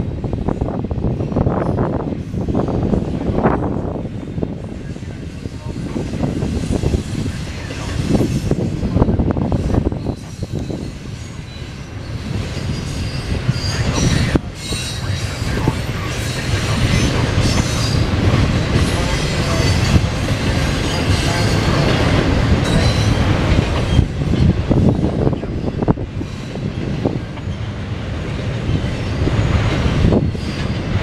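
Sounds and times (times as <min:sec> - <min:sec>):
train wheels rumbling on rail: 0:00.0 - 0:31.0
rail clatter: 0:00.2 - 0:31.0.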